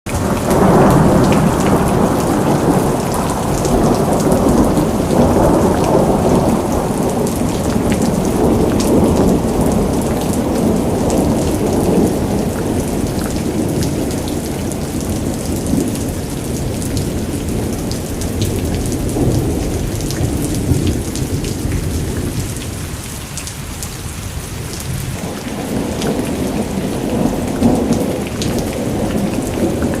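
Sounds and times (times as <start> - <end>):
heavy rain pouring: 0.1 - 30.0.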